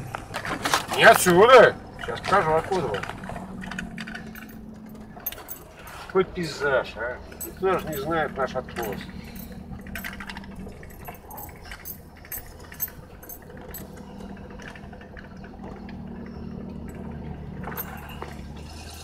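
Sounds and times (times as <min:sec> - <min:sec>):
cab clicks and rattles: 0:00.0 - 0:19.0
pickup engine running: 0:00.0 - 0:19.0.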